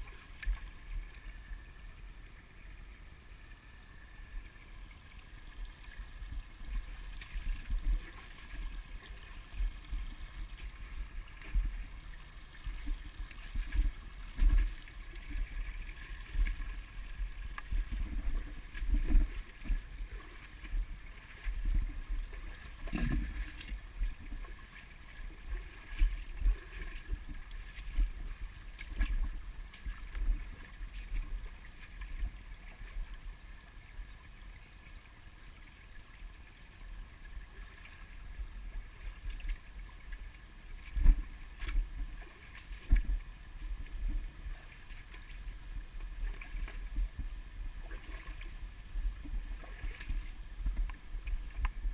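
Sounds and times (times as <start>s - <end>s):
creek trickling over rocks: 0.0s - 51.9s.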